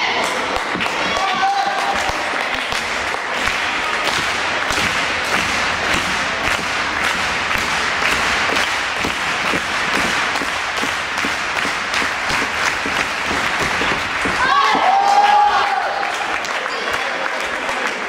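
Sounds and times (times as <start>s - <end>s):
crowd clapping: 0.0s - 18.0s.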